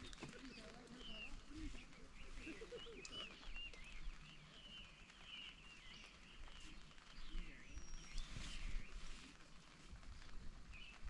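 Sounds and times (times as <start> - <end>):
birds twittering: 0.0 - 9.2.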